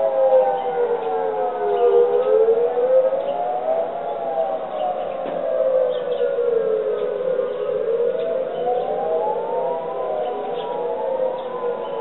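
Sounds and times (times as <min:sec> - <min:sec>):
warning sirens wailing: 0:00.0 - 0:12.0.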